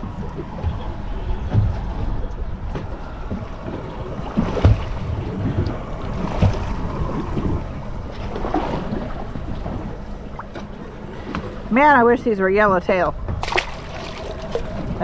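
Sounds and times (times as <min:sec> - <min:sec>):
waves slapping boat hull: 0:00.0 - 0:15.0
wind buffeting microphone: 0:00.0 - 0:15.0.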